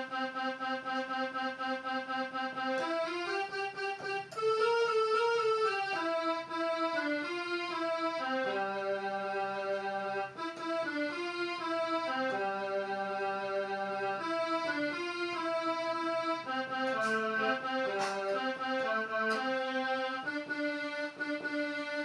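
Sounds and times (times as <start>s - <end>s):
electronic keyboard melody: 0.0s - 22.0s.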